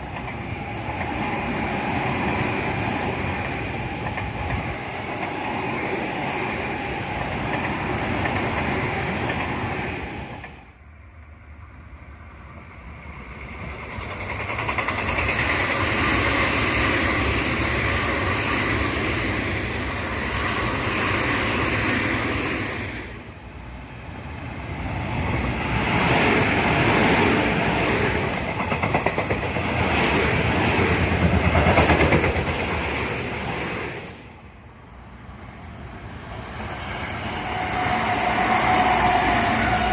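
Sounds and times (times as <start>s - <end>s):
electric trains passing: 0.0s - 39.9s.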